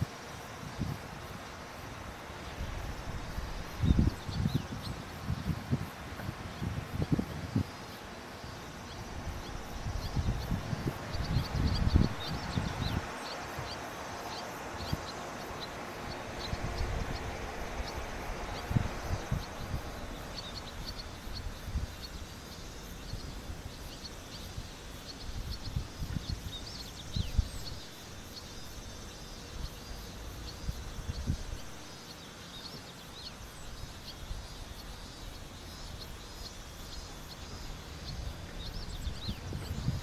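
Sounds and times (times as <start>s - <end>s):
insects chirping: 0.0s - 40.0s
wind rumble on microphone: 0.0s - 40.0s.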